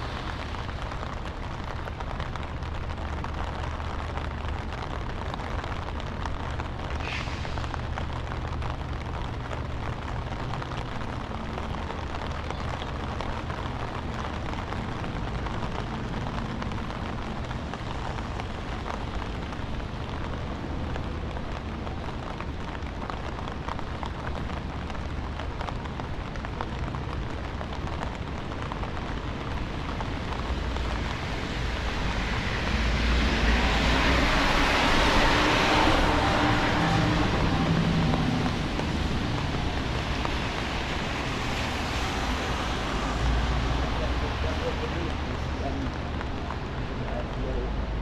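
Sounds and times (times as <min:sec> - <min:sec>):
low traffic rumble: 0:00.0 - 0:48.0
rain on street: 0:00.0 - 0:48.0
vehicle tyres hissing on wet road: 0:00.0 - 0:48.0.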